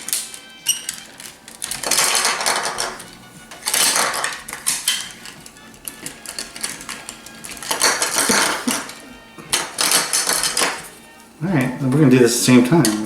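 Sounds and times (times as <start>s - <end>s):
plastic toy parts clicking: 0.0s - 10.8s
plastic parts rattling: 0.0s - 11.0s.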